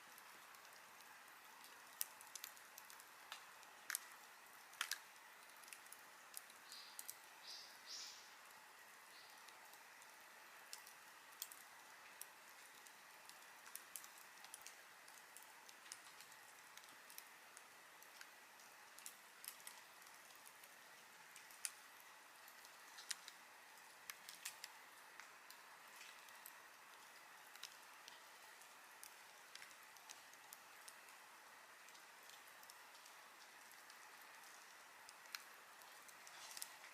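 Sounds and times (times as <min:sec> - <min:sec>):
campfire crackling: 0:00.0 - 0:36.9
sharp pops and snaps: 0:00.1 - 0:36.9.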